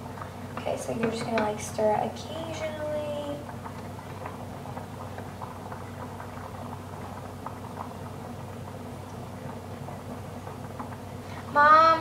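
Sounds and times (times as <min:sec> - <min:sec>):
pot of water boiling: 0:00.0 - 0:12.0
steady low hum: 0:00.0 - 0:12.0.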